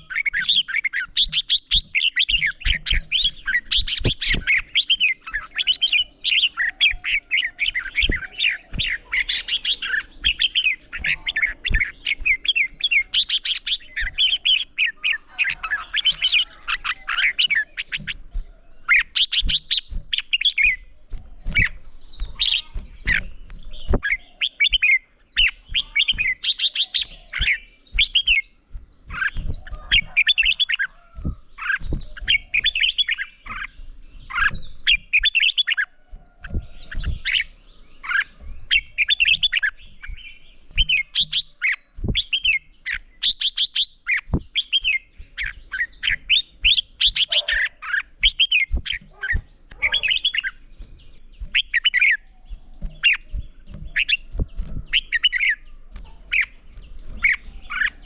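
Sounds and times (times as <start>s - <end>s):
birds singing rapid warbled phrases: 0.0s - 58.0s.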